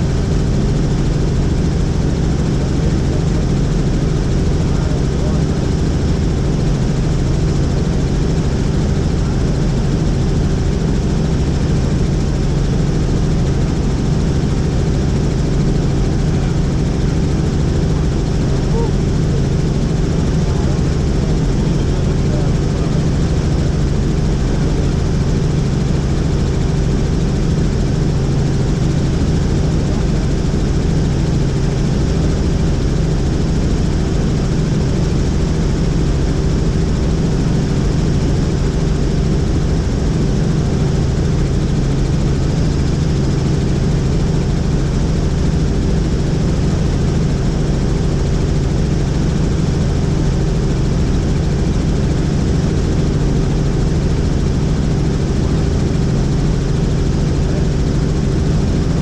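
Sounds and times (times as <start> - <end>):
helicopter engine and rotor noise: 0.0 - 59.0.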